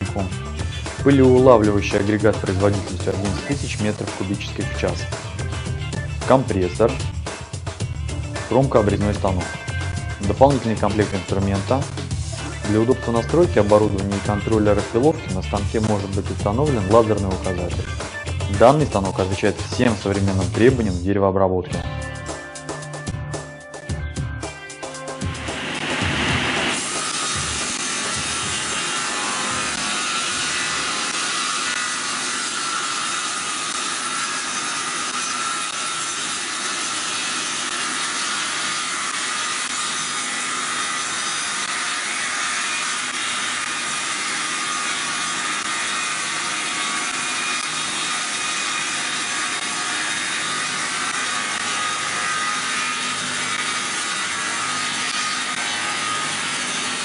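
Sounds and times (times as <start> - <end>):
circular saw cutting log: 0.0 - 7.7, 8.4 - 20.9, 25.2 - 57.0.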